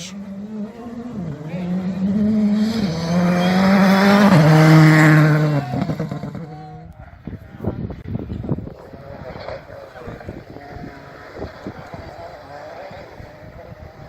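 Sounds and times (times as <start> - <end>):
rally car passing at full throttle: 0.0 - 7.2, 8.2 - 14.0.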